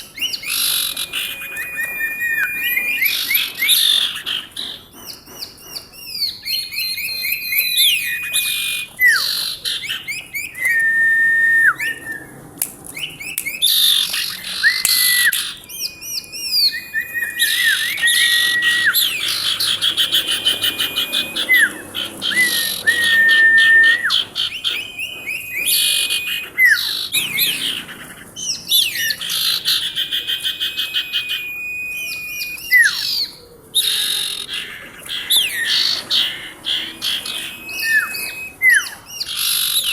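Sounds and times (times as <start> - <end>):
bird whistling and trilling: 0.0 - 39.9.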